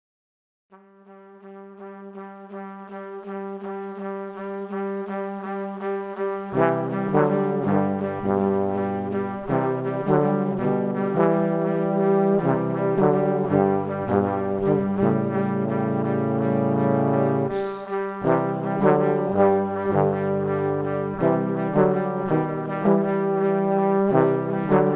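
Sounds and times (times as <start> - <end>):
instrumental intro music: 0.7 - 24.9.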